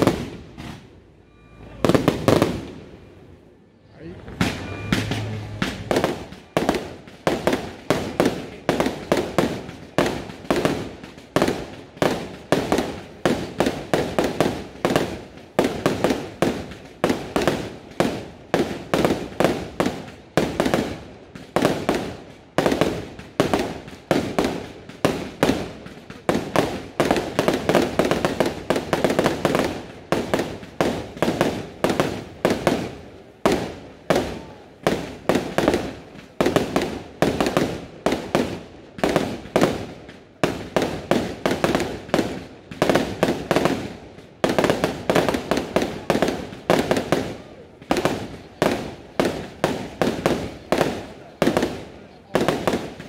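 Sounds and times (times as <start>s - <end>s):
fireworks bursts echoing: 0.0s - 53.0s.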